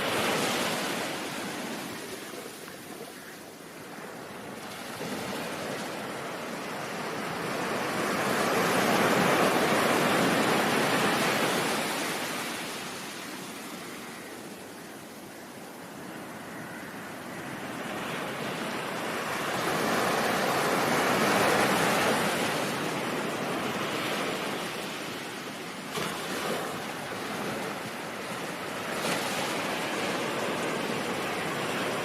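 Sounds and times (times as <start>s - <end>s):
ocean waves washing: 0.0s - 32.0s.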